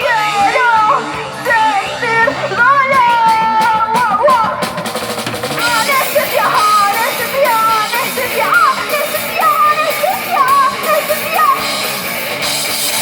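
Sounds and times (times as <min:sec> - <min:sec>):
person singing: 0:00.0 - 0:12.4
live band music: 0:00.0 - 0:13.0.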